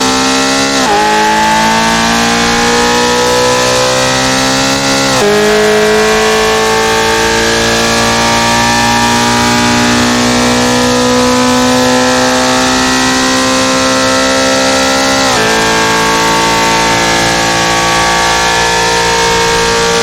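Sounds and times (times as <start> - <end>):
car engine at full throttle: 0.0 - 20.0.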